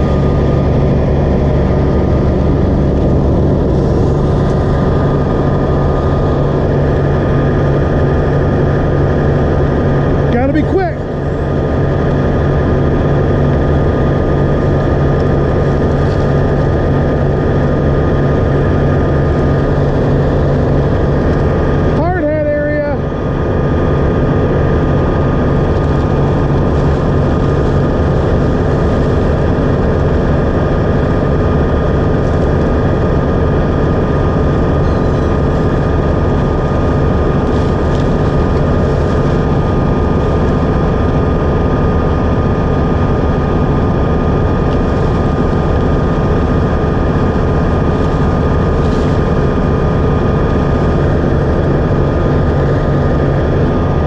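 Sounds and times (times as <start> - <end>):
wood chipper droning: 0.0 - 54.0.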